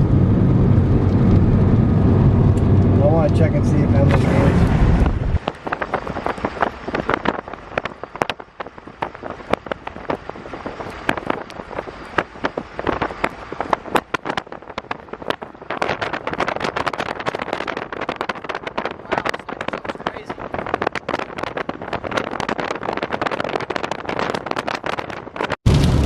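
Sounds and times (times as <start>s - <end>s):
rain tapping on vehicle: 4.1s - 26.0s.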